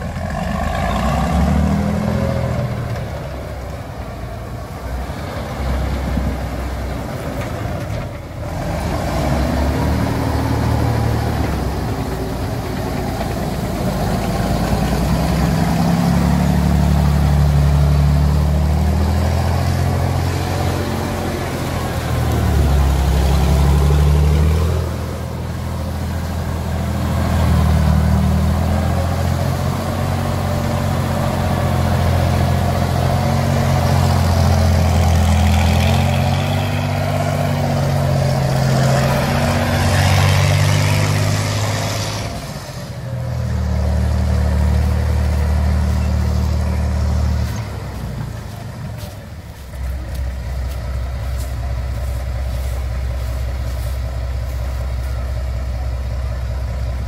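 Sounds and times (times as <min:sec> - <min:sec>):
tracked vehicle engine revving: 0:00.0 - 0:57.0.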